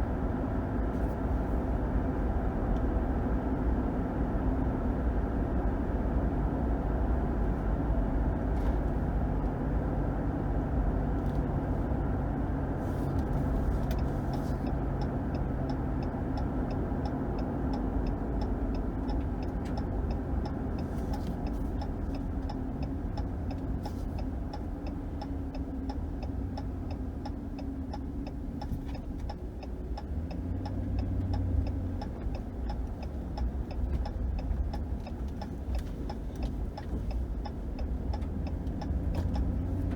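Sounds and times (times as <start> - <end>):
engine and road rumble: 0.0 - 39.9
turn signal ticking: 0.0 - 39.9.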